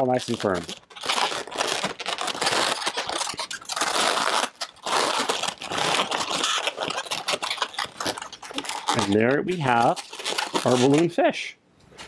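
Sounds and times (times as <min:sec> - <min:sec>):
balloons rubbing and scrunching: 0:00.0 - 0:11.2.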